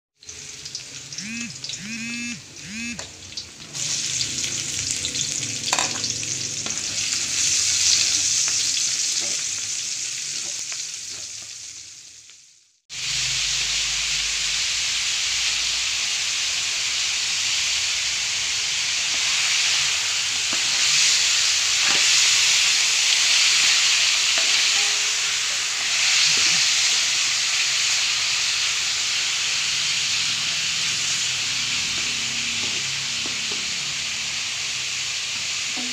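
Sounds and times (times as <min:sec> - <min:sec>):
chicken searing with sizzle: 0:00.2 - 0:35.9
garlic frying in a pan: 0:00.2 - 0:35.9.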